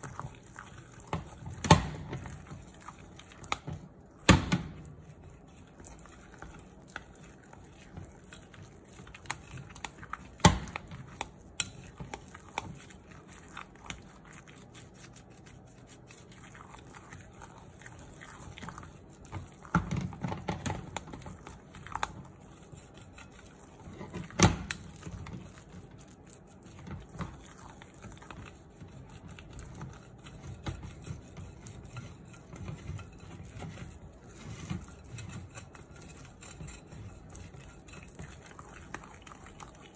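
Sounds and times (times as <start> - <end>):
spatula stirring thick batter: 0.0 - 39.9.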